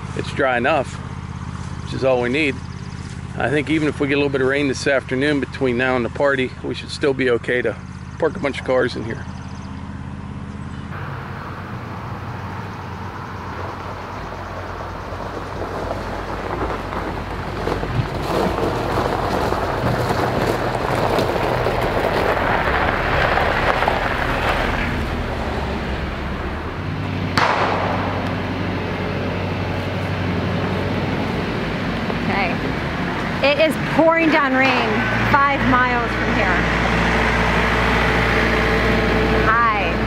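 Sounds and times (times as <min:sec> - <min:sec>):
tyres crunching on gravel: 0:00.0 - 0:39.9
car engine running: 0:00.0 - 0:40.0.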